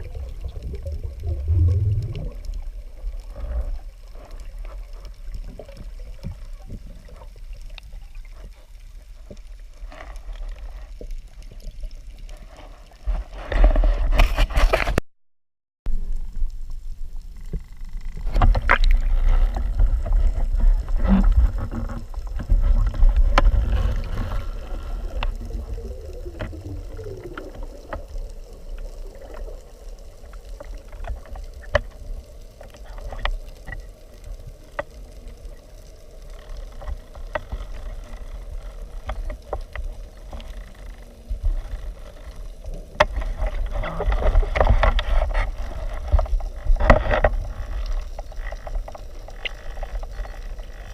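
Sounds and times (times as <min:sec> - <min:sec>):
water rushing underwater: 0:00.0 - 0:13.6, 0:16.0 - 0:50.9
faint steady hum: 0:00.0 - 0:13.9, 0:15.9 - 0:50.9.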